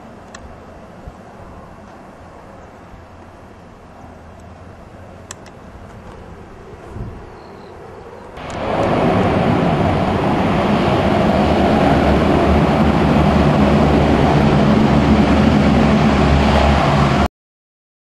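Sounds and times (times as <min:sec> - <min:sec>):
turboprop engines running: 0:00.0 - 0:17.3.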